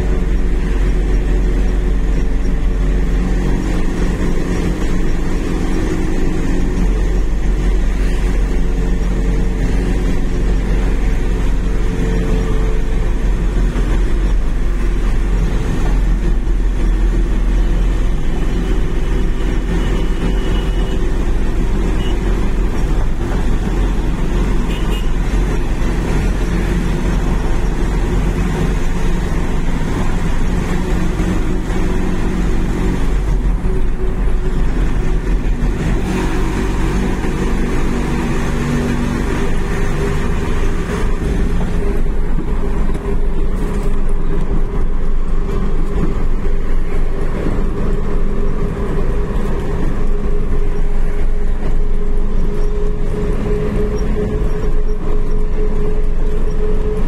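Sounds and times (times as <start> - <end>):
heavy vehicle engine drone: 0.0 - 57.0
tyre and road noise: 0.0 - 57.0.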